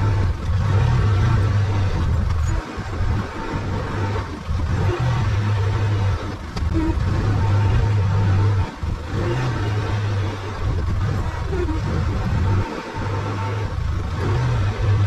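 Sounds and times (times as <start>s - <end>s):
utility vehicle engine humming: 0.0s - 15.0s.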